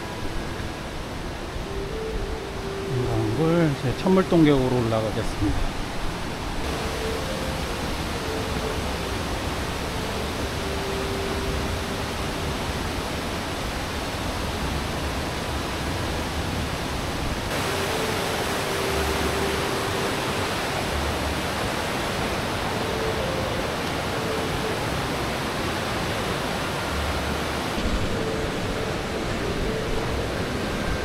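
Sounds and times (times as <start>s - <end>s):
stream water rushing over rocks: 0.0s - 31.0s.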